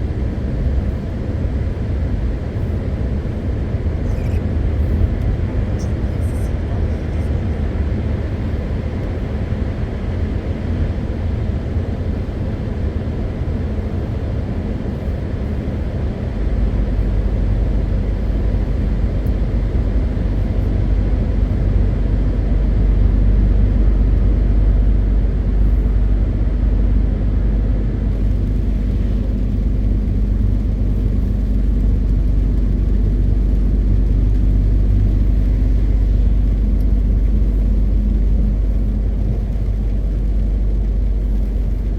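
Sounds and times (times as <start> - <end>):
road rumble: 0.0 - 41.9
truck diesel engine running: 0.0 - 41.9.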